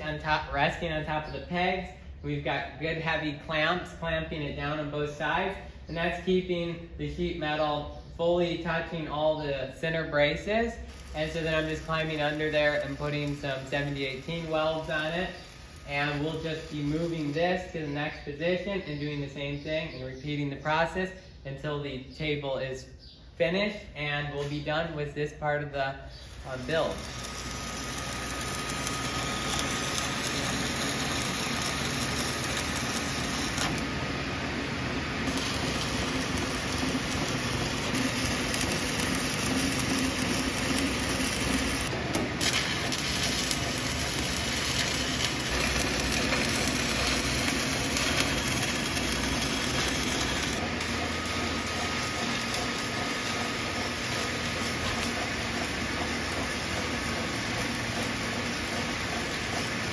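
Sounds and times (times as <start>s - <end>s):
welding arc crackling and sizzling: 0.0s - 19.5s, 24.2s - 59.9s.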